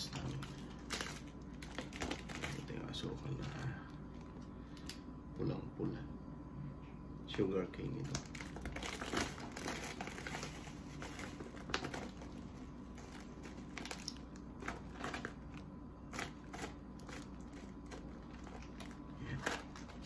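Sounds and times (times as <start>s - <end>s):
plastic bag crinkling: 0.0s - 4.4s, 8.0s - 20.0s.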